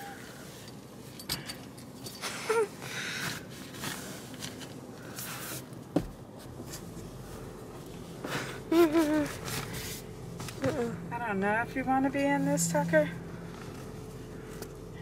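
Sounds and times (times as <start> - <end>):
car cabin noise: 2.6 - 15.0.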